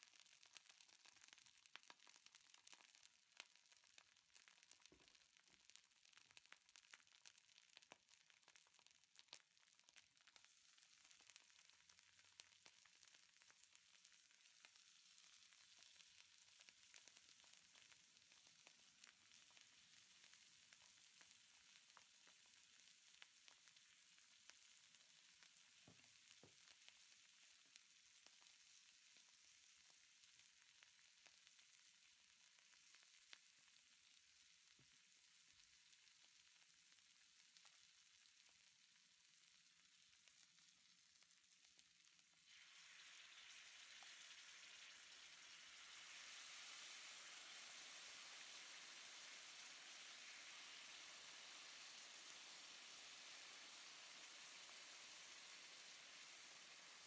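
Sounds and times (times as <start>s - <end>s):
hot plate sizzling and popping: 0.0s - 57.0s.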